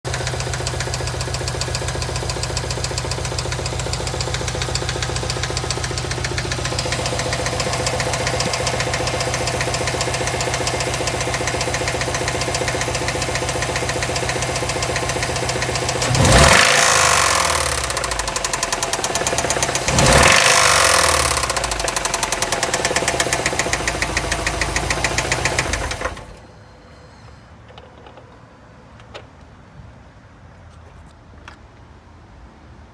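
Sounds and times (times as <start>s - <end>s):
car engine idling with knocking: 0.0s - 26.4s
engine revving: 0.1s - 26.4s.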